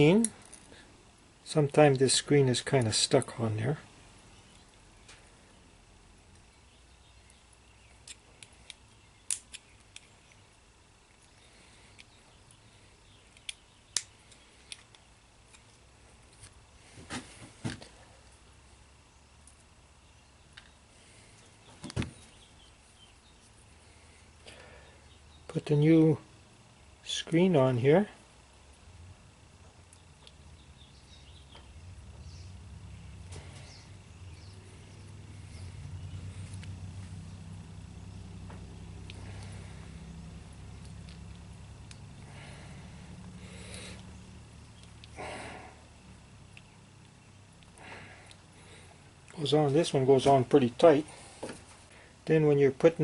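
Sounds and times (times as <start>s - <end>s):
low background rumble: 0.0s - 52.8s.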